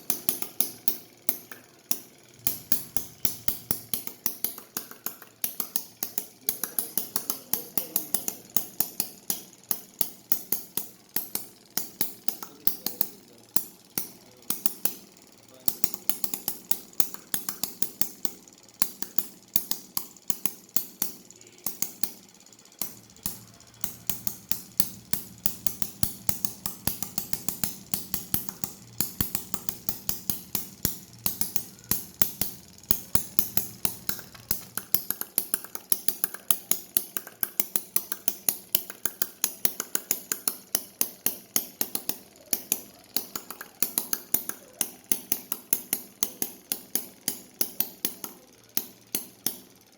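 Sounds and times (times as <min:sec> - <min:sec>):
small engine clicking: 0:00.0 - 0:49.9.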